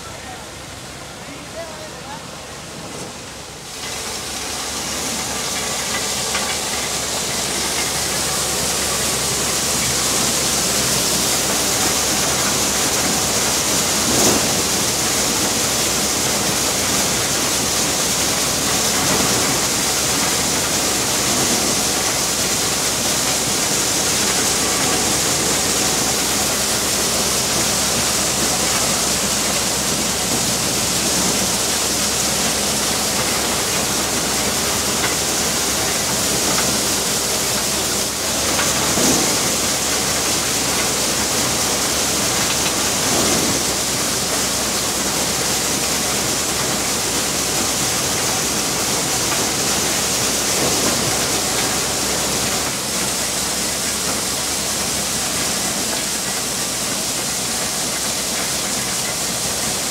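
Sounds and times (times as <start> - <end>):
corn sheller rushing hiss: 0.1 - 59.9.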